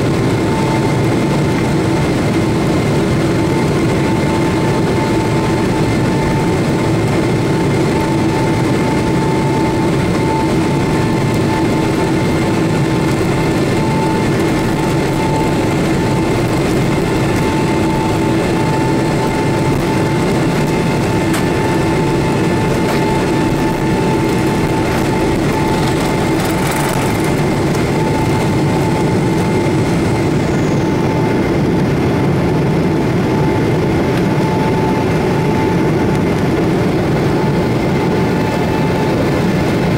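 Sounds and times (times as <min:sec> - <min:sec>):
engine whine: 0:00.0 - 0:39.9
jet engine roar in cabin: 0:00.0 - 0:39.9.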